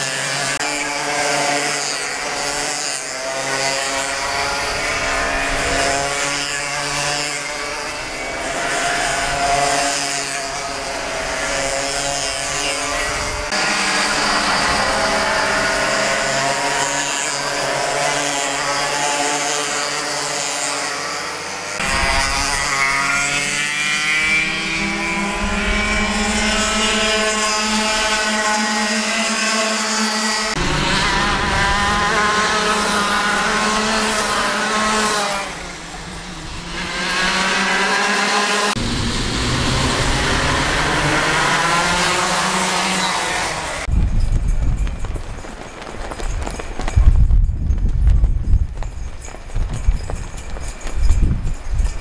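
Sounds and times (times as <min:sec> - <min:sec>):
kart engines buzzing and revving: 0:00.0 - 0:52.0.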